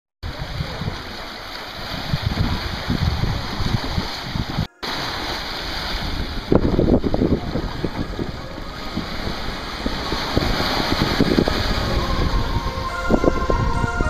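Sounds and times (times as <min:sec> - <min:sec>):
waves washing onto beach: 0:00.2 - 0:14.0
wind buffeting microphone: 0:00.2 - 0:14.0.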